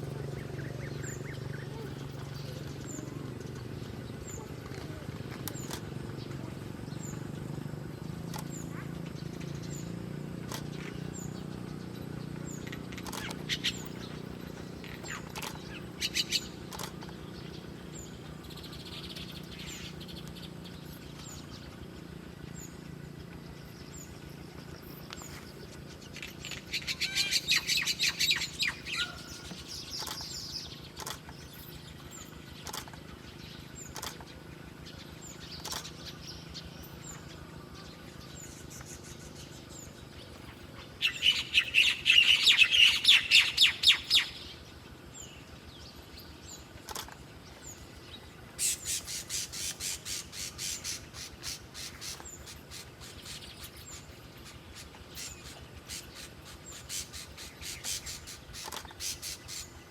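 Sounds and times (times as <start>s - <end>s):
bird chirps: 0.0s - 59.9s
steady low hum: 0.0s - 59.9s.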